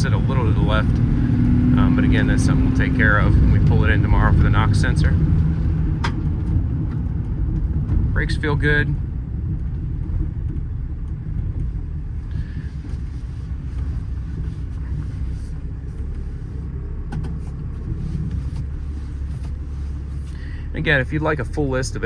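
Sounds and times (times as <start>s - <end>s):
diesel engine drone: 0.0s - 22.0s
road noise: 0.0s - 22.0s.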